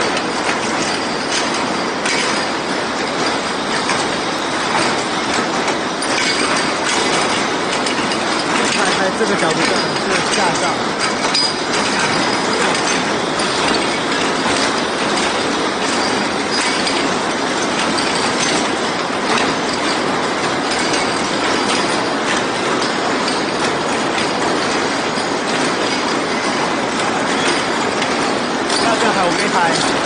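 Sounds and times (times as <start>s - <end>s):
braiding machines clattering: 0.0s - 30.0s.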